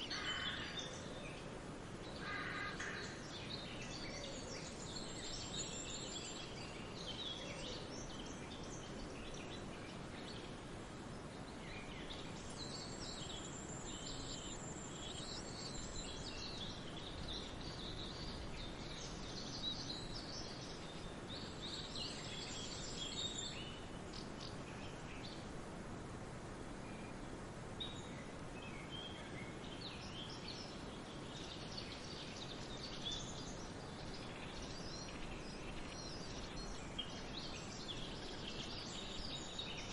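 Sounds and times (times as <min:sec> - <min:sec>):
birds singing and chirping: 0:02.1 - 0:25.4, 0:27.8 - 0:39.9.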